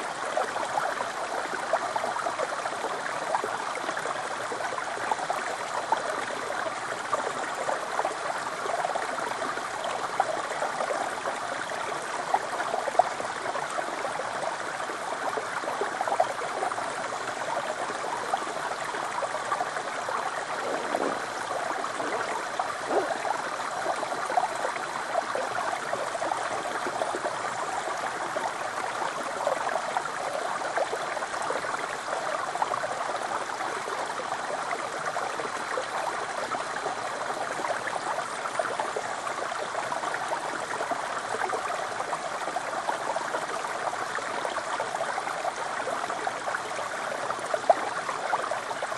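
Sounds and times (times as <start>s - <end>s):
stream trickling over rock: 0.0s - 48.9s.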